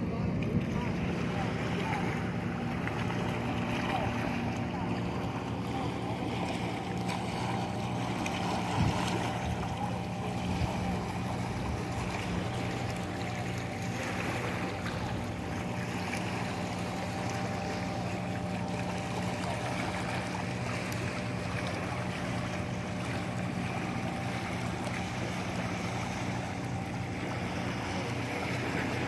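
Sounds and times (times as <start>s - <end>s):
small waves lapping on rocks: 0.0s - 29.0s
steady low hum: 0.0s - 29.0s.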